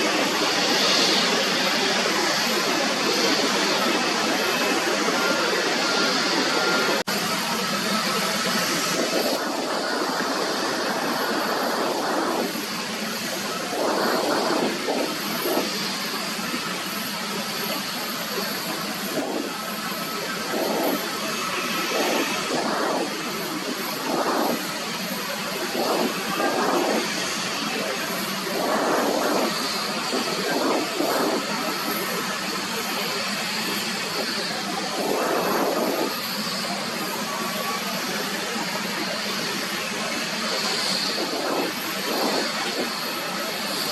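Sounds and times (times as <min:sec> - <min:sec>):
jet engines running: 0:00.0 - 0:43.9.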